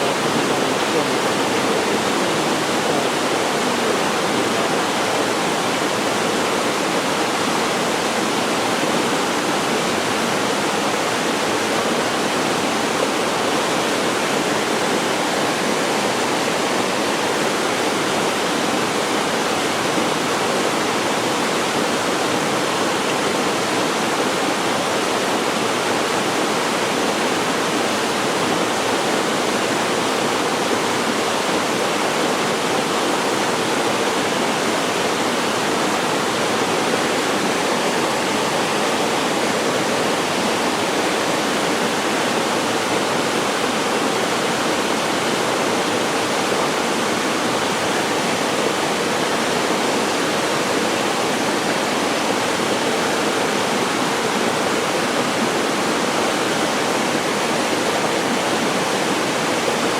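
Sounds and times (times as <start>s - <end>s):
waterfall crashing into pool: 0.0s - 59.9s.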